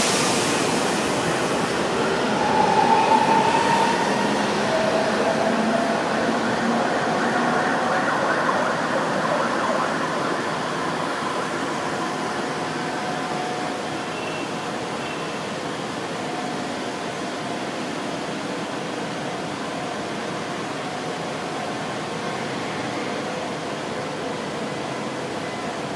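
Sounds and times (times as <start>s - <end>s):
train wheel and track rumble: 0.0s - 25.9s.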